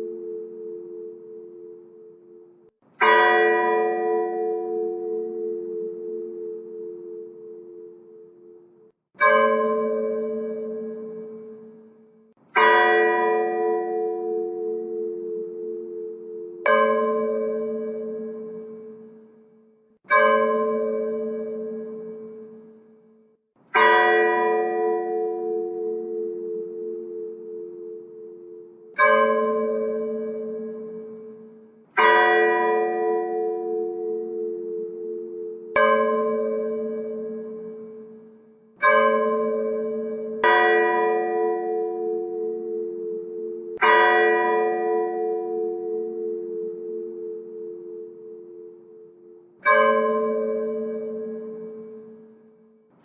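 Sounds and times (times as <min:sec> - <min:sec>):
church bell tolling: 0:00.0 - 0:53.0.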